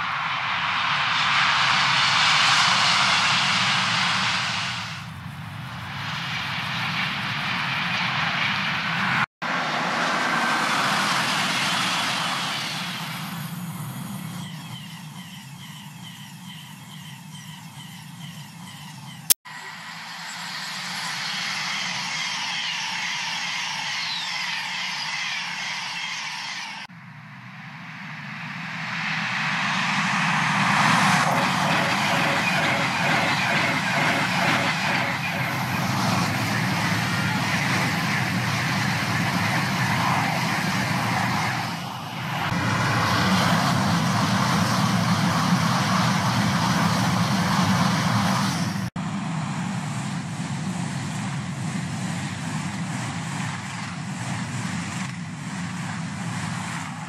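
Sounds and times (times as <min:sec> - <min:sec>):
high-speed trains passing: 0:00.0 - 0:57.0.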